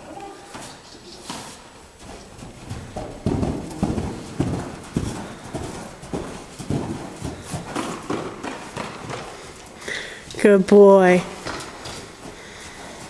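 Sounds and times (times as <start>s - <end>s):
hoofbeats on soft dirt: 0.6s - 9.8s, 11.3s - 13.0s.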